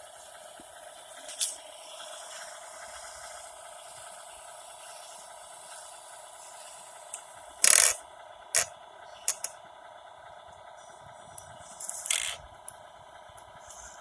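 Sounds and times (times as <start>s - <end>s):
toy truck motor whine: 0.0s - 14.0s.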